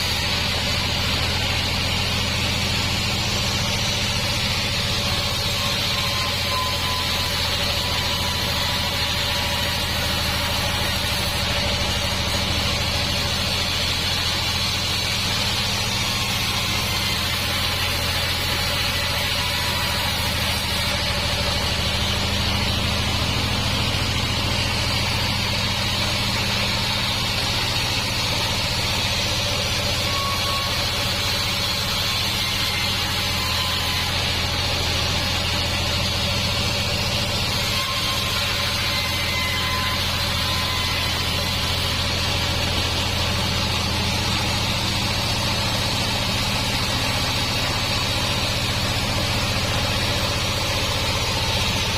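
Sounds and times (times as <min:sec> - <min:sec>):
sawmill machinery humming: 0:00.0 - 0:51.9.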